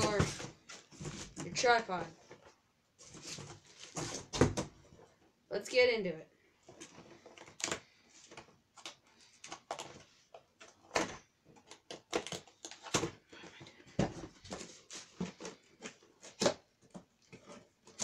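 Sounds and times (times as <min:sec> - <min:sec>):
cardboard packaging rustling: 0:00.0 - 0:05.3, 0:06.6 - 0:18.0.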